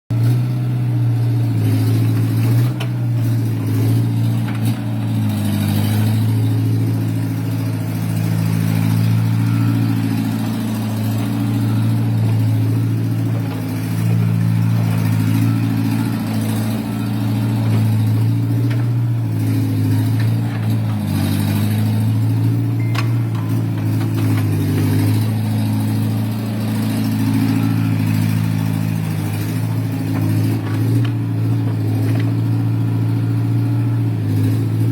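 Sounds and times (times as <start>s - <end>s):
excavator diesel engine: 0.1s - 34.9s.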